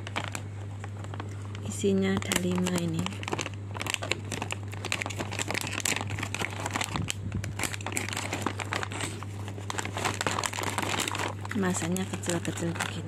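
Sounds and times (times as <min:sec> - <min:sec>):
plastic packaging crinkling: 0:00.0 - 0:13.0
steady low hum: 0:00.0 - 0:13.0.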